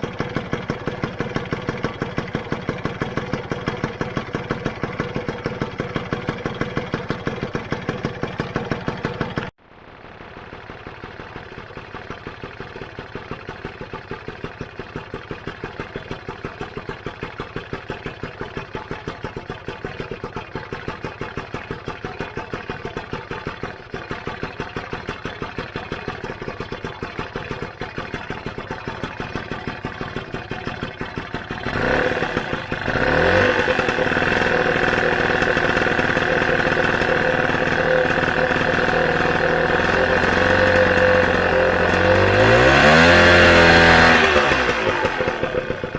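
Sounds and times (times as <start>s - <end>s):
two-stroke engine idling and revving: 0.0s - 45.9s.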